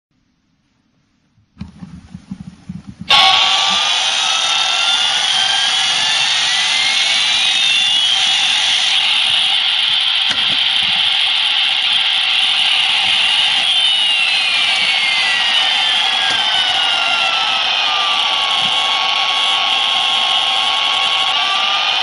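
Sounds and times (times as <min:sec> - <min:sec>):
electronic alarm with siren tones: 0:03.1 - 0:21.7.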